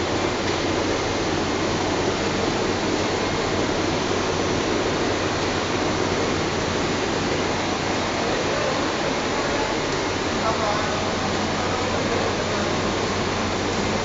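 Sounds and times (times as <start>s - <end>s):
burner steady rushing noise: 0.0s - 14.0s.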